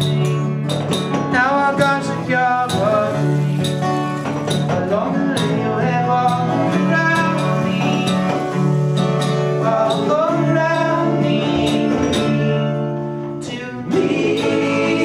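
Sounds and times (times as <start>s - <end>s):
acoustic guitar strumming: 0.0s - 15.0s
person singing: 1.2s - 15.0s.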